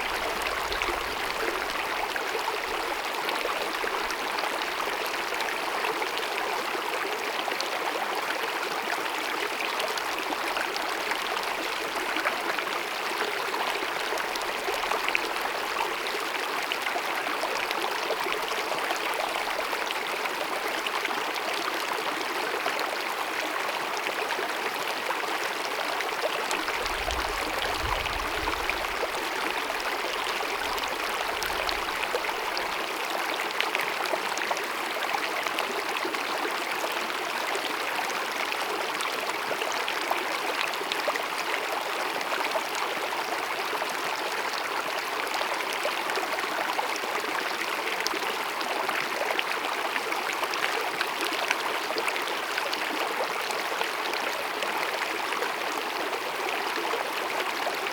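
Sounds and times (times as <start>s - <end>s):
stream babbling over rocks: 0.0s - 7.3s, 8.1s - 57.9s.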